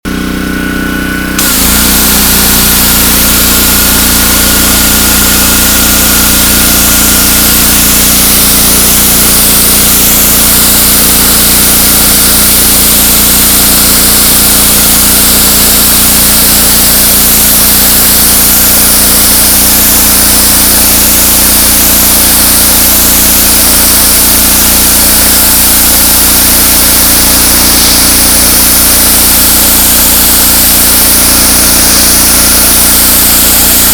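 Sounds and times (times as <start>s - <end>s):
pressure washer engine running: 0.0s - 33.9s
high-pressure water spray hissing: 1.4s - 33.9s.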